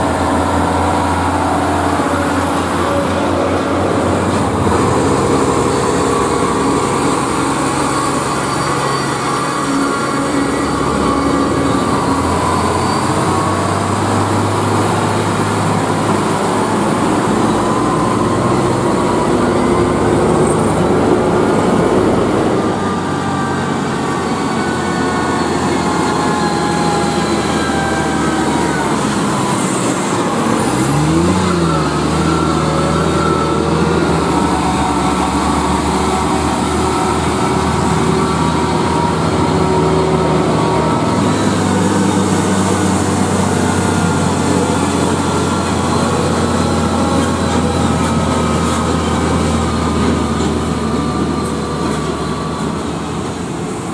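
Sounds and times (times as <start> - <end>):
truck diesel engines: 0.0 - 53.9.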